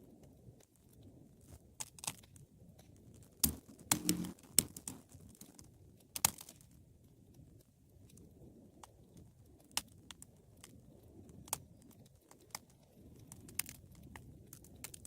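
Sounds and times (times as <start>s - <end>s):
fire crackles and pops: 0.0s - 15.0s
wood fire burning: 0.2s - 15.0s.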